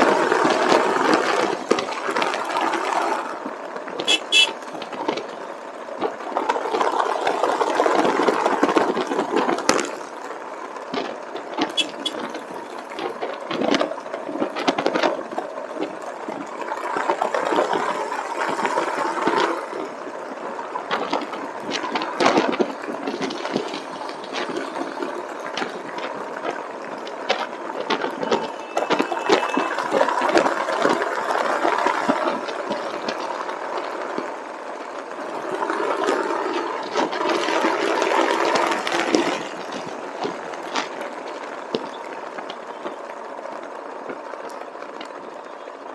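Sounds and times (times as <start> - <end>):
rushing wind and road noise: 0.0 - 45.9.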